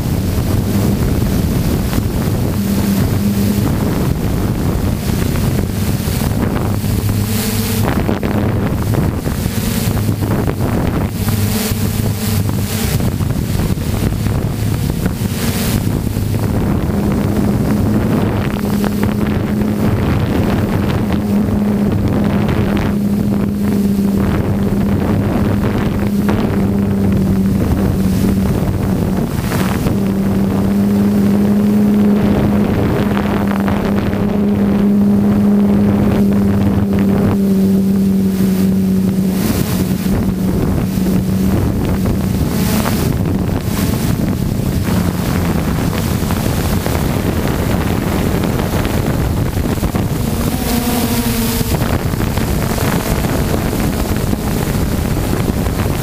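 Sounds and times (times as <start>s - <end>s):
drone motors humming: 0.0s - 56.0s
wind rushing over microphone: 0.0s - 56.0s.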